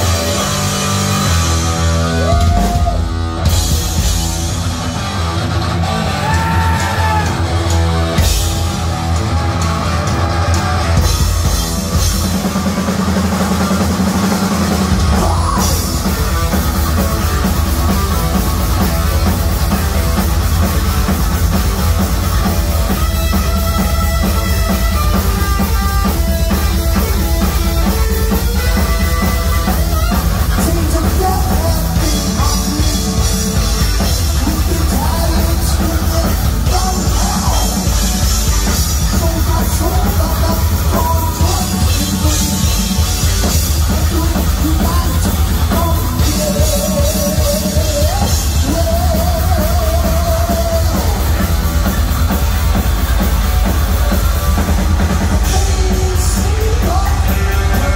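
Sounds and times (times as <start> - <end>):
bass guitar: 0.0 - 57.9
distorted electric guitar: 0.0 - 57.9
driving drum kit: 0.0 - 57.9
lead guitar line: 0.0 - 57.9.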